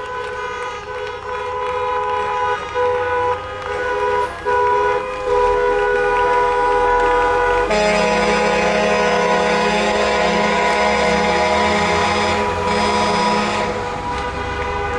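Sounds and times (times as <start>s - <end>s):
car horns honking: 0.2s - 14.9s.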